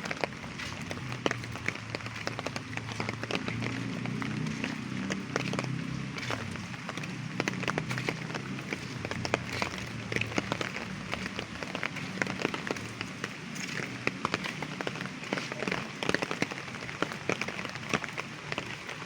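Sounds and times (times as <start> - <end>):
light rain: 0.0 - 19.0
raindrops ticking on surfaces: 0.0 - 19.0.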